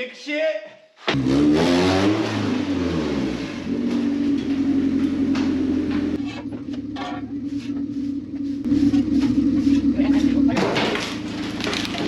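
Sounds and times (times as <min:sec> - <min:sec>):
engine humming: 0:01.1 - 0:12.0.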